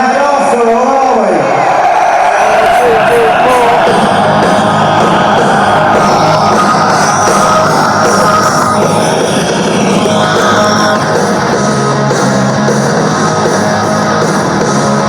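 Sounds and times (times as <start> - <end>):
rock music with electric guitars: 1.6 - 15.0.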